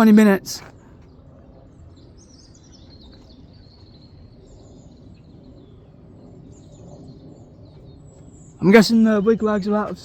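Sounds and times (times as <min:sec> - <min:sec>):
low outdoor rumble: 0:00.0 - 0:10.0
small birds chirping: 0:00.0 - 0:10.0.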